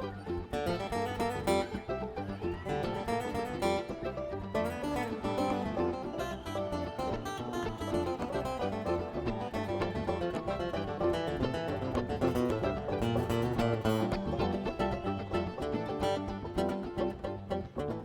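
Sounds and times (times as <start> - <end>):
upbeat acoustic guitar music: 0.0 - 1.9, 2.5 - 18.0.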